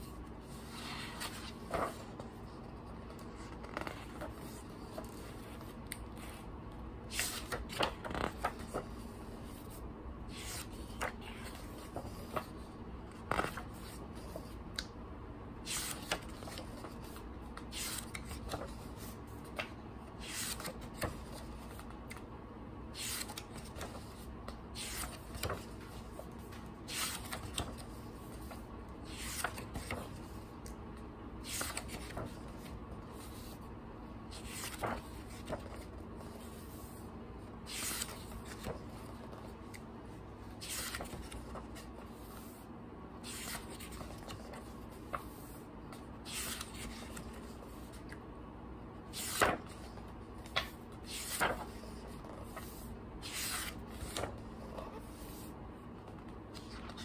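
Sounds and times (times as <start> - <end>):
book pages turning: 0.0 - 14.9, 15.6 - 22.3, 22.9 - 30.8, 31.4 - 33.6, 34.2 - 42.6, 43.2 - 48.2, 49.0 - 57.0.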